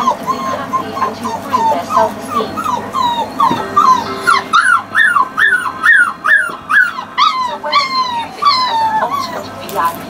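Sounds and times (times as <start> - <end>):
puppy whining: 0.0 - 10.0.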